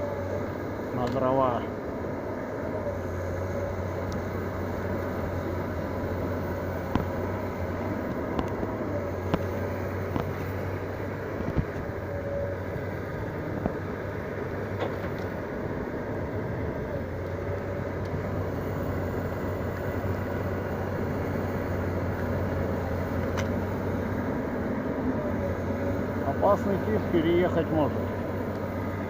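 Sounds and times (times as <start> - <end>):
tractor engine humming: 0.0 - 29.0.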